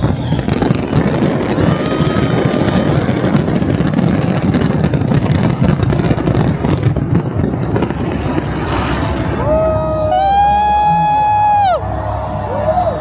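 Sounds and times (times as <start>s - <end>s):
fireworks rumbling and crackling: 0.0s - 13.0s.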